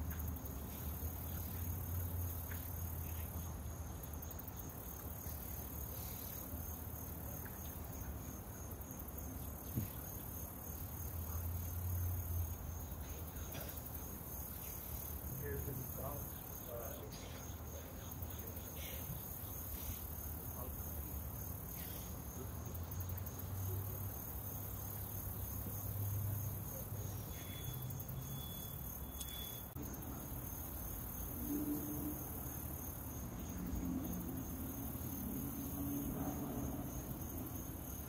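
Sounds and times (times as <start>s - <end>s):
faint hiss: 0.0s - 36.3s
crickets trilling: 0.0s - 38.0s.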